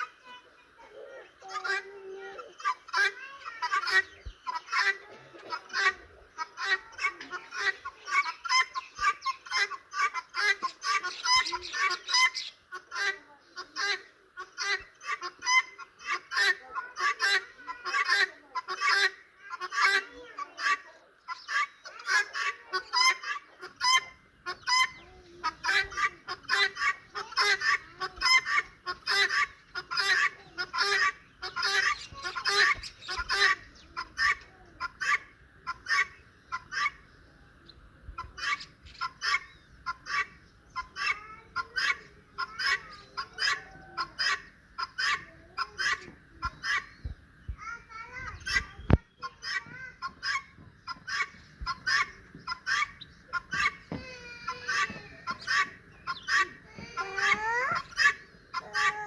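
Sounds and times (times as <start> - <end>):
turkeys calling: 0.0 - 59.0.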